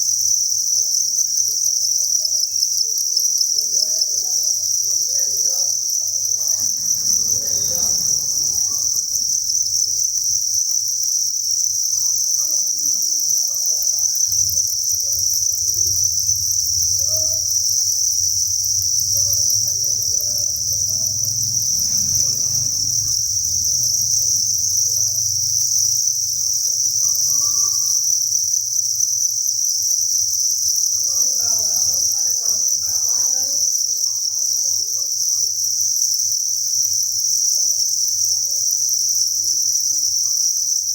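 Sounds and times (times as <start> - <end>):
crickets chirping in chorus: 0.0 - 40.9.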